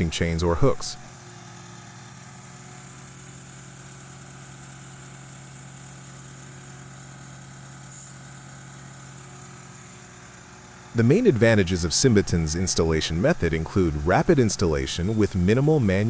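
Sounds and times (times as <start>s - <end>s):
machine engine idling: 0.0s - 16.0s.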